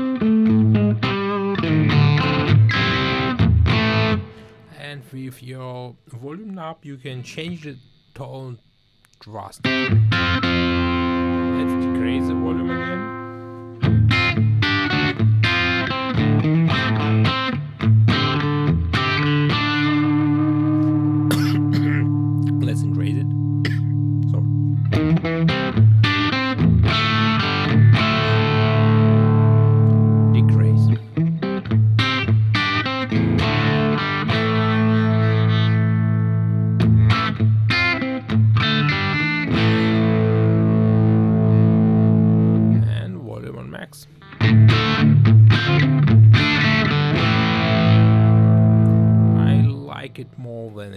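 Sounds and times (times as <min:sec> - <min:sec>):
electric guitar riff: 0:00.0 - 0:04.8, 0:09.4 - 0:43.0, 0:44.1 - 0:50.1.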